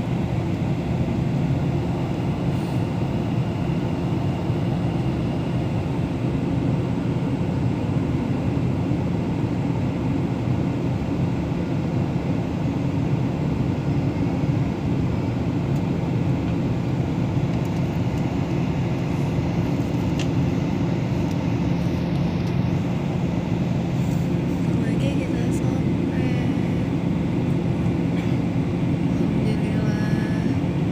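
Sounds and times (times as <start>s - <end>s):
airliner cabin noise: 0.0s - 30.9s.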